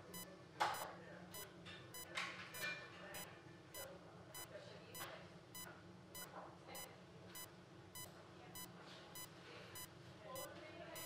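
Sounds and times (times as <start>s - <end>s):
patient monitor beeping: 0.0s - 11.0s.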